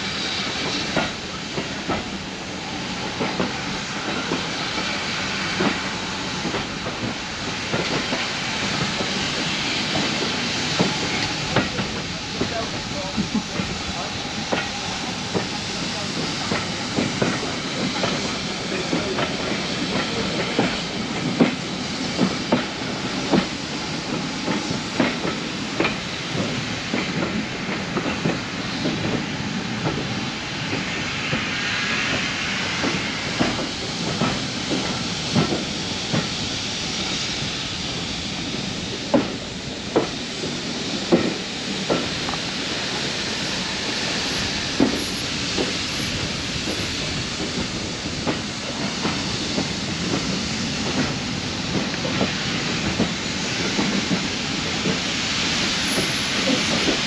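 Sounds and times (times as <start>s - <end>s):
steam train rumble and hiss: 0.0s - 57.0s.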